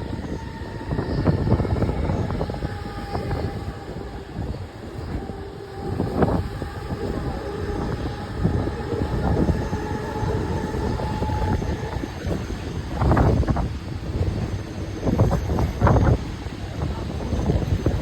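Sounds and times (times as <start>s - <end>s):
electric train rumbling on rails: 0.0s - 18.0s.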